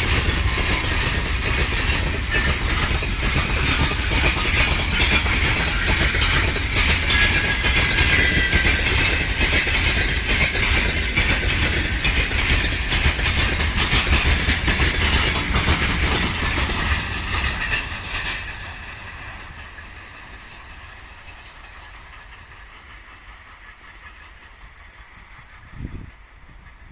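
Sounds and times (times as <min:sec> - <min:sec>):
freight train wheels clattering: 0:00.0 - 0:26.9.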